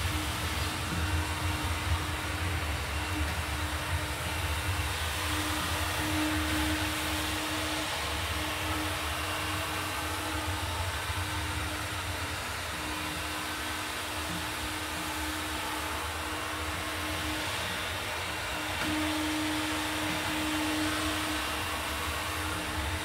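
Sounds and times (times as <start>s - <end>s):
gas torch flame hissing: 0.0s - 23.0s.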